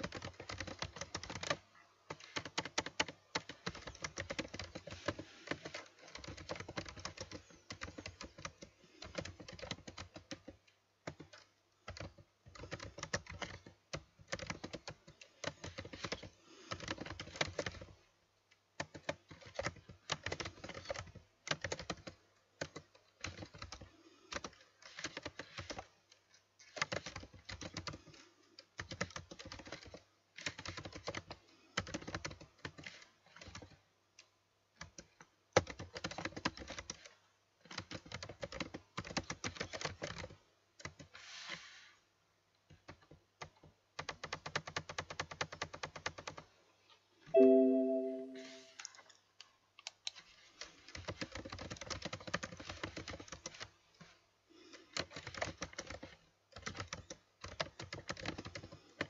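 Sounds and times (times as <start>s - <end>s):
computer keyboard typing: 0.0s - 17.9s, 18.8s - 25.8s, 26.6s - 28.2s, 28.8s - 33.8s, 34.8s - 37.1s, 37.7s - 41.1s, 42.9s - 46.5s, 47.4s - 48.9s, 49.8s - 53.7s, 54.7s - 59.0s.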